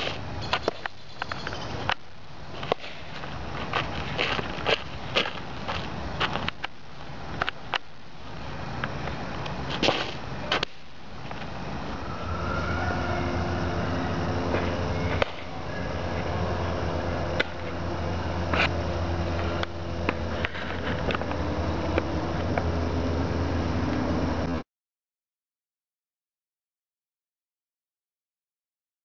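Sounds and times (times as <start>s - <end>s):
low hum: 0.0s - 24.6s.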